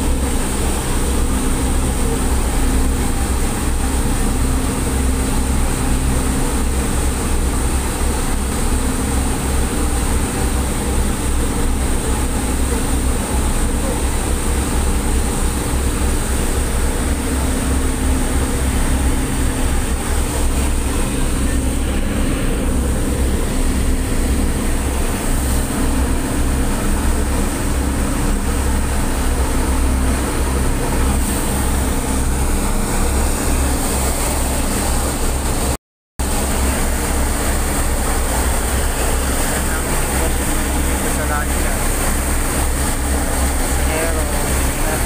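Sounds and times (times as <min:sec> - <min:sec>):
diesel engines droning: 0:00.0 - 0:45.0
water rushing in wake: 0:00.0 - 0:45.0.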